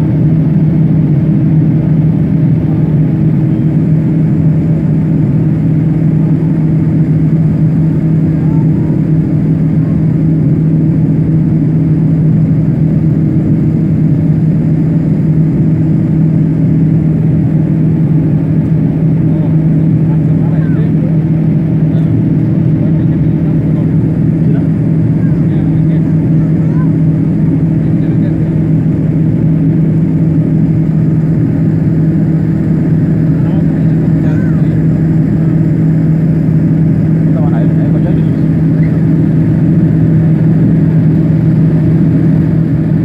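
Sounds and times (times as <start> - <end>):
jet engine drone in cabin: 0.0 - 43.0.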